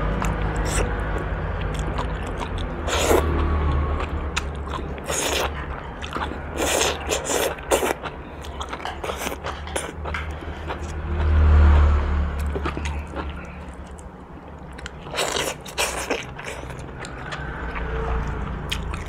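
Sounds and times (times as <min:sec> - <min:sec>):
chewing crunchy vegetable stalks: 0:00.0 - 0:19.0.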